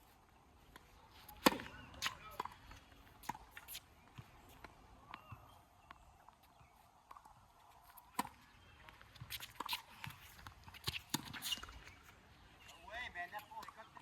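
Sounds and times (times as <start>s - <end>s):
footsteps on court: 0.0s - 14.0s.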